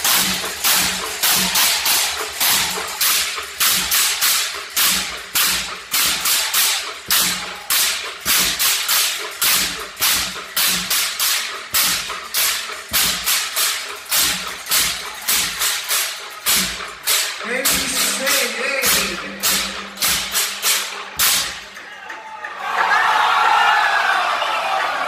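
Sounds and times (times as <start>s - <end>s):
sticks beating wooden barrels: 0.0s - 22.6s.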